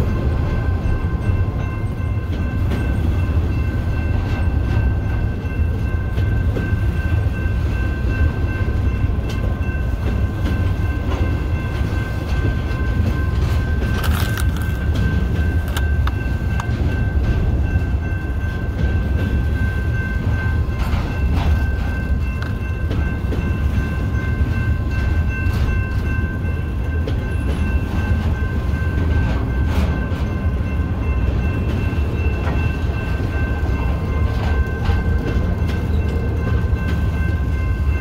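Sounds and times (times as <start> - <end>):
freight train heavy rumble: 0.0 - 38.0.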